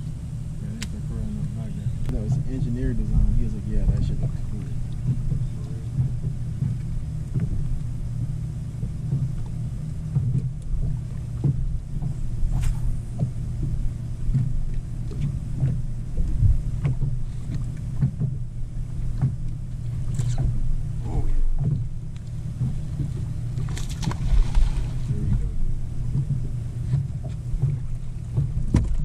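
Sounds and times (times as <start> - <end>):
steady low hum: 0.0 - 29.0
waves slapping against hull: 0.0 - 29.0.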